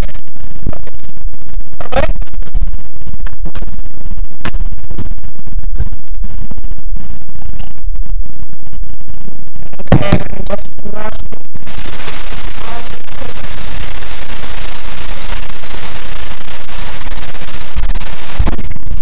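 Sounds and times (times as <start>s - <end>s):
distorted scratching and crackling: 0.0s - 19.0s.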